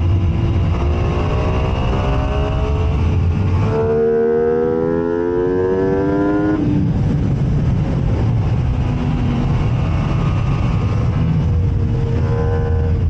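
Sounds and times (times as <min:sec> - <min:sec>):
low engine rumble: 0:00.0 - 0:13.0
motorcycle engine revving: 0:00.0 - 0:13.0
wind rush: 0:00.0 - 0:13.0.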